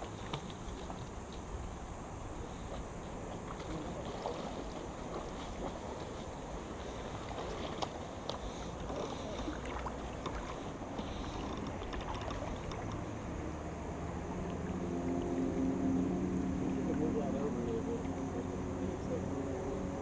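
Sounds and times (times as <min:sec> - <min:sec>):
water lapping around boat hull: 0:00.0 - 0:20.0.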